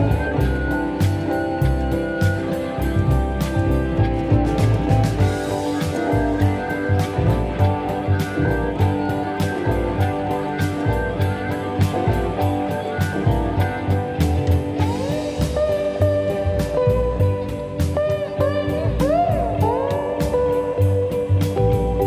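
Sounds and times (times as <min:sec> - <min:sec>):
guitar instrumental with drums: 0:00.0 - 0:22.0
sliding guitar note: 0:00.0 - 0:22.0.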